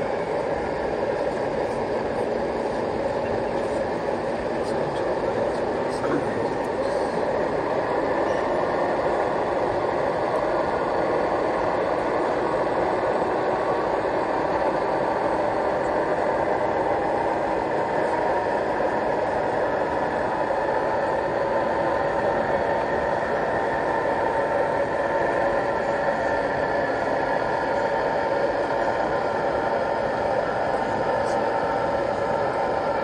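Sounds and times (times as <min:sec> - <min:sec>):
crowd hubbub in a hall: 0:00.0 - 0:33.0.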